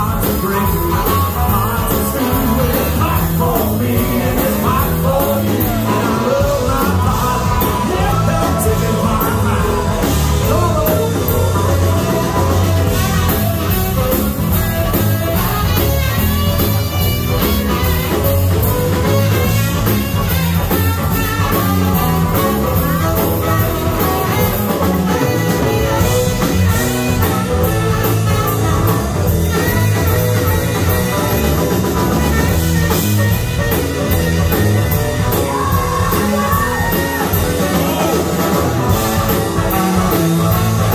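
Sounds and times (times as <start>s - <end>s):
harmonica: 0.0s - 40.9s
live blues-rock band: 0.0s - 40.9s
saxophone: 0.0s - 40.9s.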